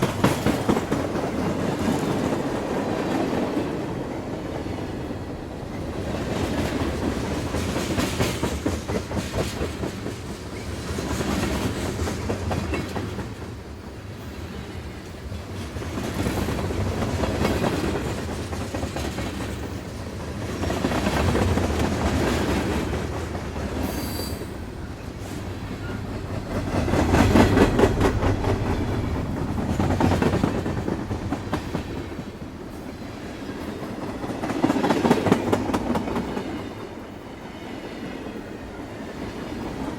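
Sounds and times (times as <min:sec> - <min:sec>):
train rumbling on track: 0:00.0 - 0:39.9
wheels clickety-clack over rail joints: 0:00.0 - 0:39.9.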